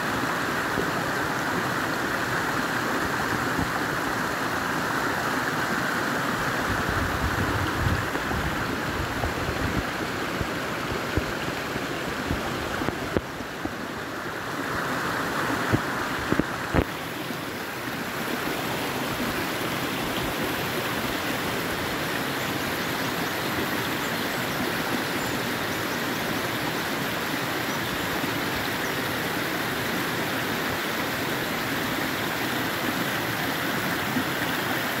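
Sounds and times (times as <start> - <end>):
stream splashing over rocks: 0.0 - 35.0.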